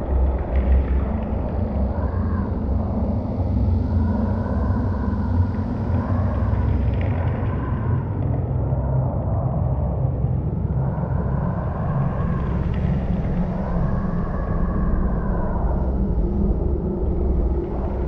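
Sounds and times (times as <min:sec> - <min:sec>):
deep rumble: 0:00.0 - 0:18.0
eerie howling sweeps: 0:00.0 - 0:18.0.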